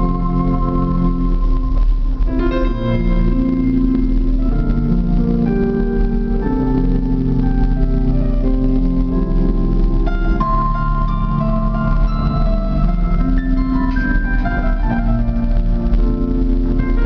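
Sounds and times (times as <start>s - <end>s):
held keyboard chords: 0.0s - 17.0s
slow keyboard melody: 0.0s - 17.0s.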